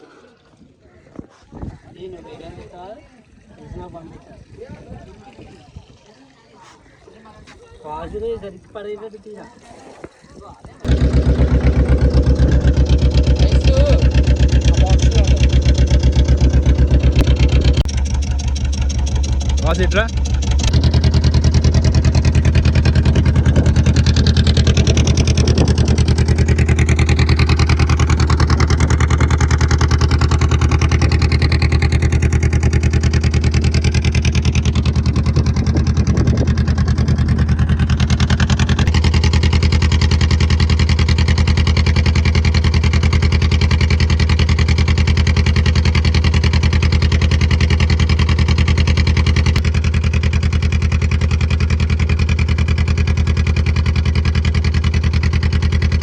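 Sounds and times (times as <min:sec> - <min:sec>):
boat engine running steadily: 0:09.6 - 0:56.0.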